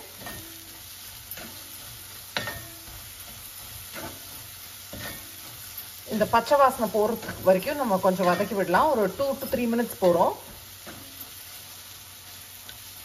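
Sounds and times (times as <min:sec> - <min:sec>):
food sizzling in oil: 0:00.0 - 0:13.0
wooden spatula scraping a pan: 0:00.1 - 0:13.0.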